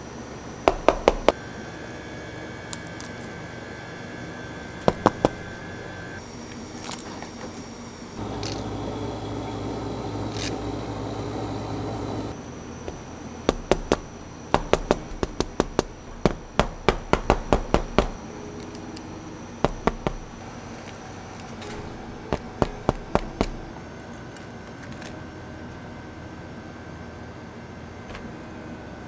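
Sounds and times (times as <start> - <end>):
ice cream machine humming: 0.0 - 29.0.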